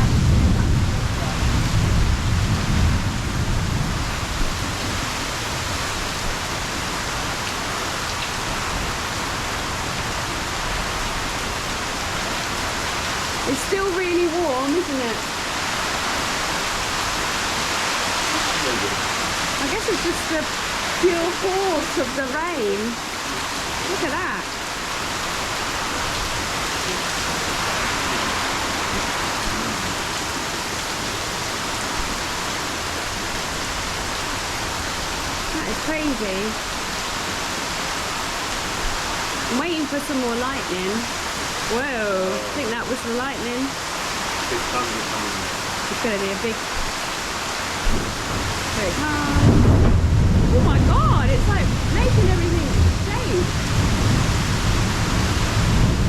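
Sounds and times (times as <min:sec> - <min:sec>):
thunder rumble: 0:00.0 - 0:37.5, 0:47.6 - 0:56.0
heavy rain hissing: 0:00.0 - 0:56.0.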